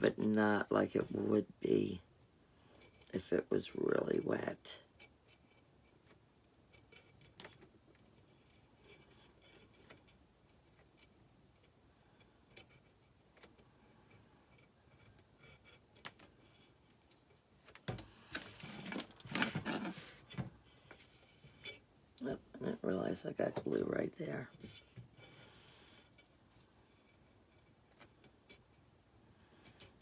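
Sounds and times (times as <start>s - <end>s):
scratching and handling noise: 2.6s - 30.0s.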